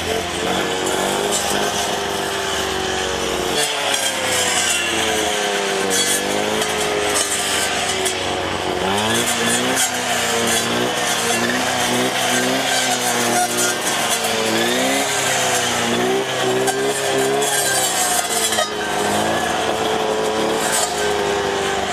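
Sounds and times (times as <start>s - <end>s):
strimmer engine cutting undergrowth: 0.0s - 21.9s.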